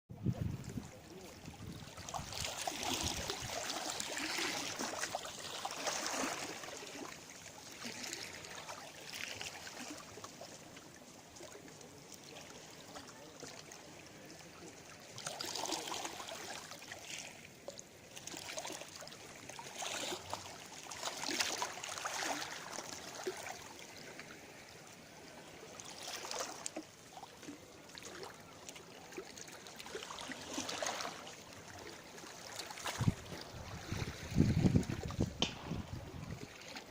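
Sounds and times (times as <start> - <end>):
small sea waves splashing: 0.1 - 36.9.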